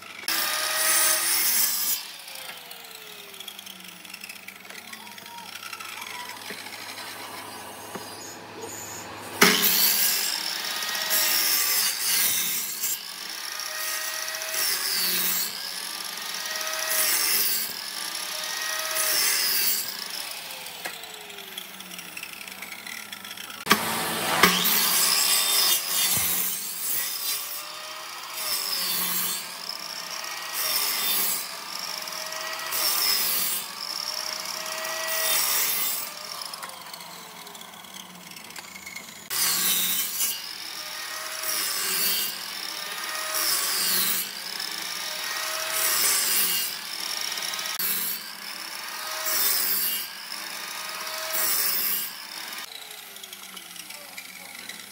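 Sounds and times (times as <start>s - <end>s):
miter saw cutting wood: 0.0s - 54.9s.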